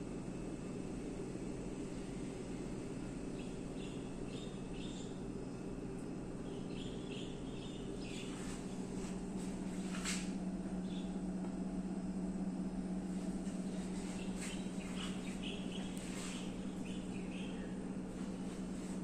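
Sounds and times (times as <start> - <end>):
rice cooker hum: 0.0 - 19.0.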